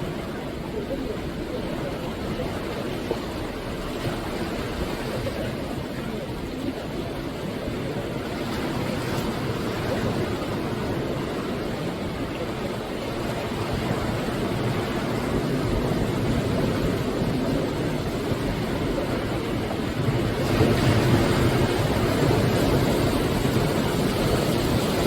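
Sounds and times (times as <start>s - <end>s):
sea surf breaking: 0.0s - 25.0s.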